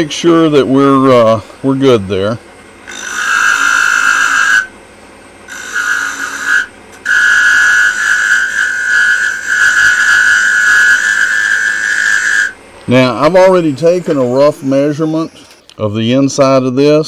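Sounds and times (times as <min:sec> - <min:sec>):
wood lathe cutting whine: 0:00.0 - 0:15.6.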